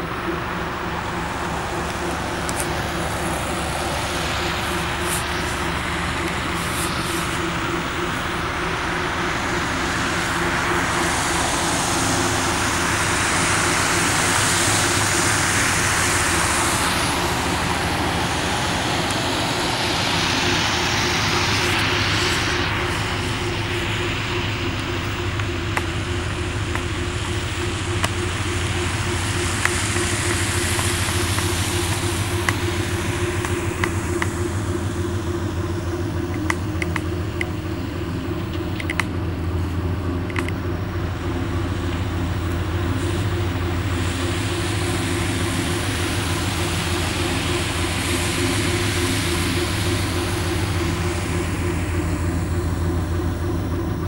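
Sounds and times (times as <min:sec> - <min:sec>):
hiss: 0:00.0 - 0:54.0
tugboat engine humming: 0:00.0 - 0:54.0.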